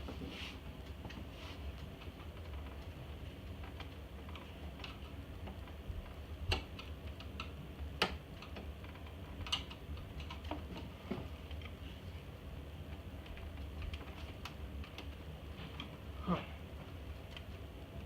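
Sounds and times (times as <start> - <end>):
steady low hum: 0.0 - 18.0
small clicks and taps of parts: 0.8 - 11.8, 12.9 - 16.0, 16.8 - 17.7.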